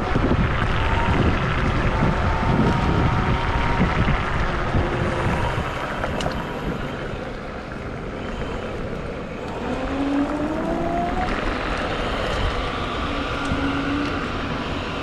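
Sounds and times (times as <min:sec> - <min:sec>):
thin electric motor whine: 0:00.0 - 0:15.0
wind rushing over microphone: 0:00.0 - 0:15.0.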